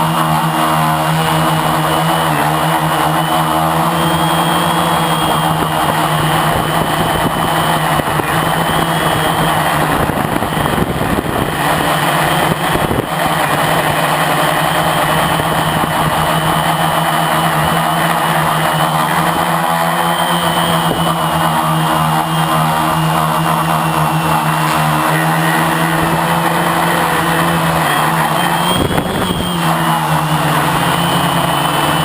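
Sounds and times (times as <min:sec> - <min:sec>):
high whine: 0:00.0 - 0:32.0
quadcopter motors buzzing: 0:00.0 - 0:32.0.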